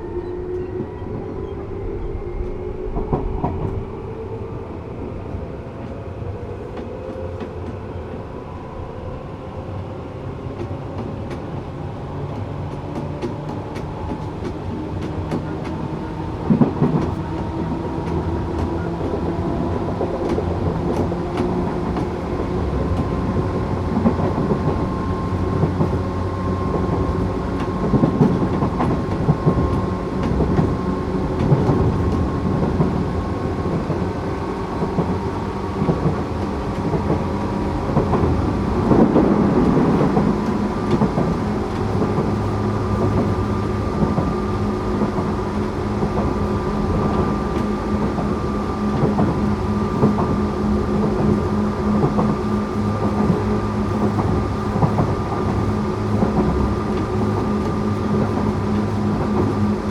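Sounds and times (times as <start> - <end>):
electric train motor hum: 0.0 - 59.9
rail joint clicks: 0.0 - 59.9
wheel-on-rail rumble: 0.0 - 59.9.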